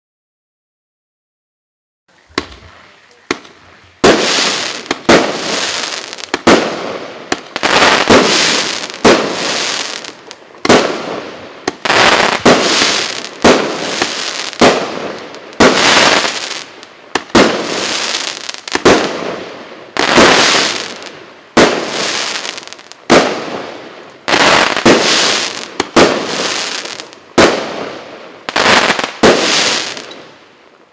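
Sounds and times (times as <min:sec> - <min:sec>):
crackling hiss: 0:02.1 - 0:30.9
fireworks cake firing sharp reports: 0:02.3 - 0:30.2.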